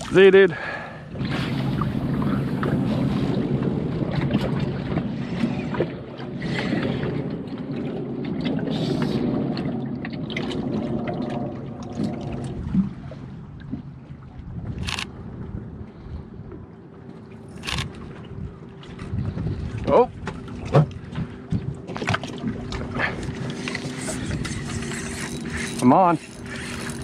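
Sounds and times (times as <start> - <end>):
rumbling wind: 0.0 - 27.0
water noise: 0.0 - 27.0.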